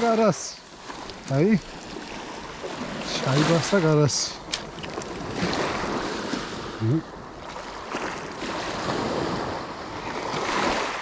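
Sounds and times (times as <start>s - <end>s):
sea waves washing: 0.0s - 11.0s.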